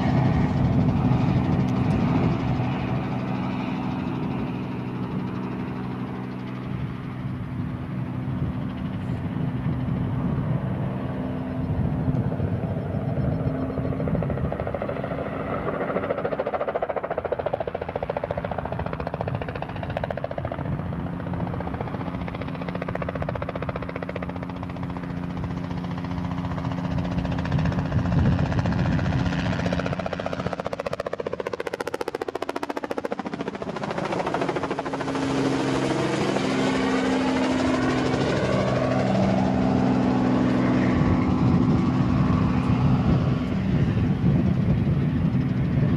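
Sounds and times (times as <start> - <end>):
helicopter flying low: 0.0 - 45.9.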